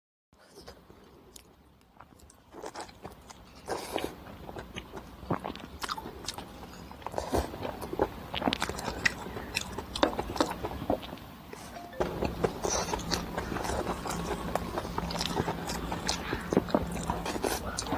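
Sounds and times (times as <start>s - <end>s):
person chewing crunchy food: 0.4s - 17.9s.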